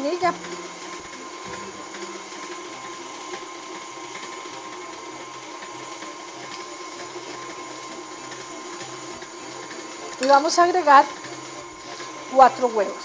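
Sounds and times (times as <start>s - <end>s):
stand mixer running: 0.0s - 13.0s.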